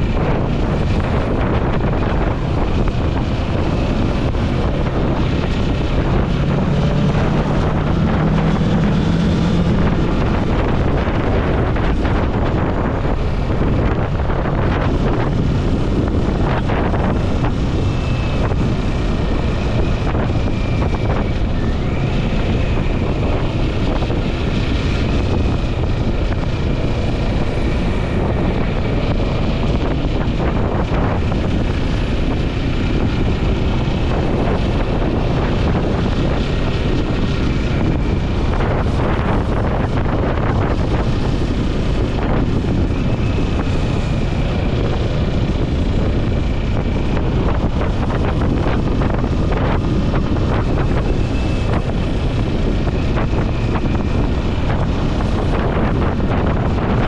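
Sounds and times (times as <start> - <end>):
low drone: 0.0 - 57.0
motorcycle engine running: 0.0 - 57.0
wind rushing over microphone: 0.0 - 57.0.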